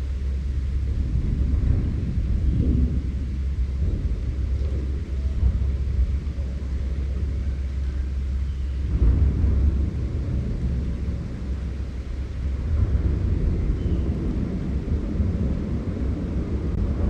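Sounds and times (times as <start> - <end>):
strong wind gusting through forest: 0.0 - 17.0.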